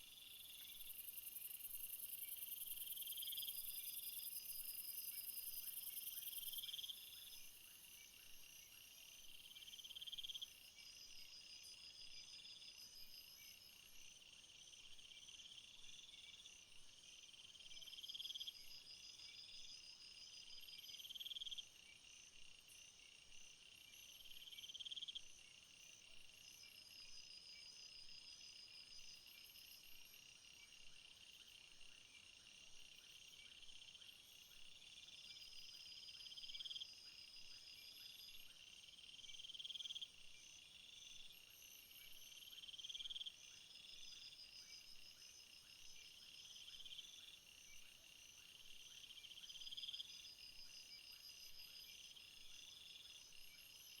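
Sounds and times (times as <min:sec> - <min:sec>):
insects chirping and trilling: 0:00.0 - 0:54.0.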